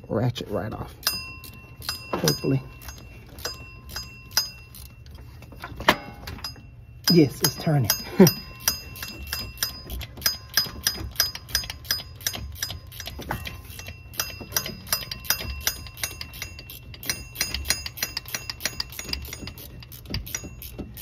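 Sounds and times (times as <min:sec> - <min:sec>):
socket ratchet clicking: 0:01.0 - 0:05.0, 0:06.4 - 0:21.0.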